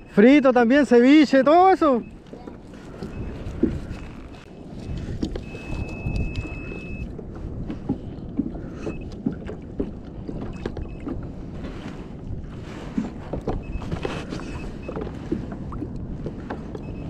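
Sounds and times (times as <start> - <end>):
water slapping against kayak hull: 1.5 - 17.0
wind buffeting microphone: 2.0 - 17.0.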